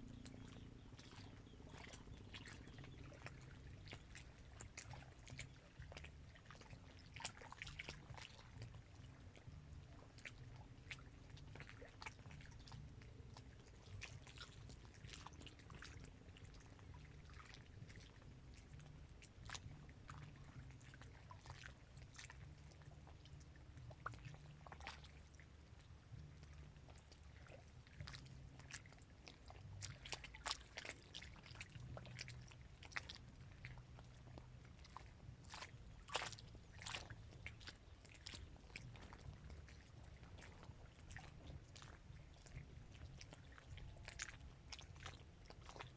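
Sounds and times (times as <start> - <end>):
low steady rumble: 0.0 - 45.9
small waves lapping: 0.0 - 45.9.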